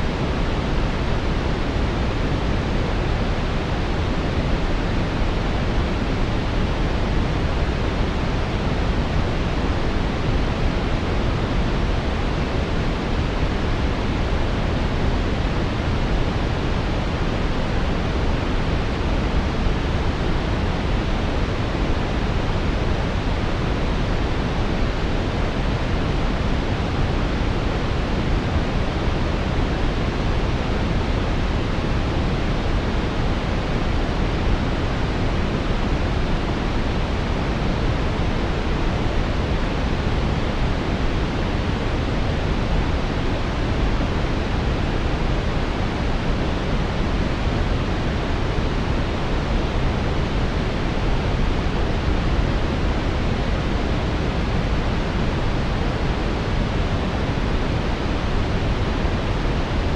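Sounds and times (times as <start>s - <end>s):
brown noise rushing hiss: 0.0s - 59.9s.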